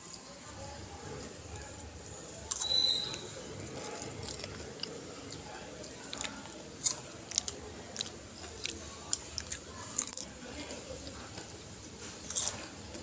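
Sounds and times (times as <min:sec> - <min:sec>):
person chewing popcorn: 0:01.1 - 0:13.0.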